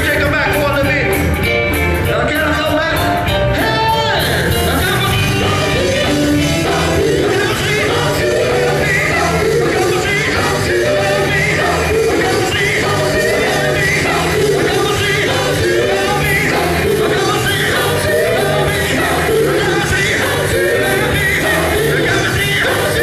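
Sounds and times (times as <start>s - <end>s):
band with bass and drums: 0.0s - 23.0s
male vocal group singing: 2.1s - 23.0s.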